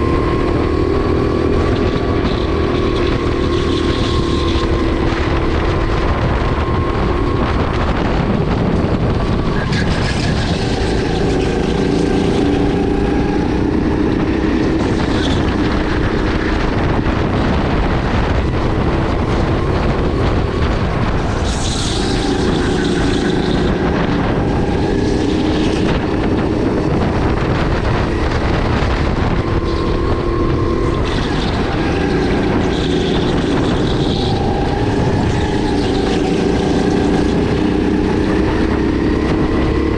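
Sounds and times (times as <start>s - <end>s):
kart engine revving: 0.0s - 39.9s
wind on microphone: 0.0s - 39.9s.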